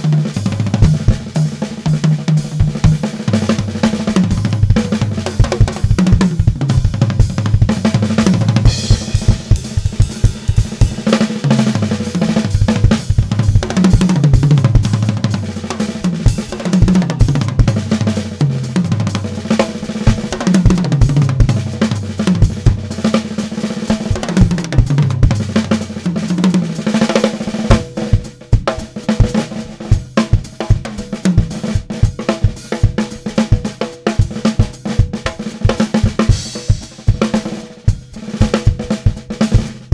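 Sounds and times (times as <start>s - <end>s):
bass drum snare and hi-hat: 0.0s - 39.9s.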